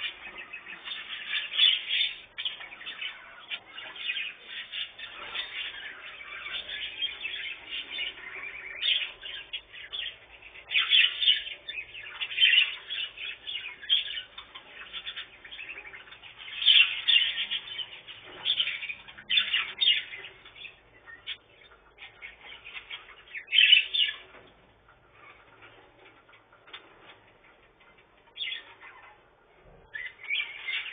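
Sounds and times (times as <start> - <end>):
budgerigars chattering: 0.0 - 26.8, 27.4 - 30.9
sharp bird calls: 0.0 - 26.8, 27.4 - 30.9.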